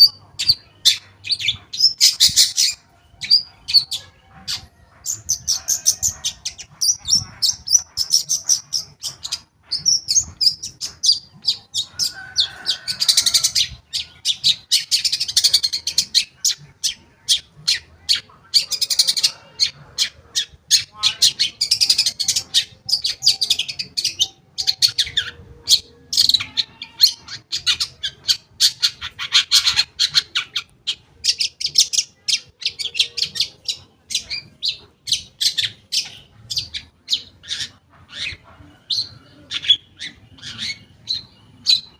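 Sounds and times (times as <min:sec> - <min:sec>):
shrike chattering song: 0:00.0 - 0:41.9.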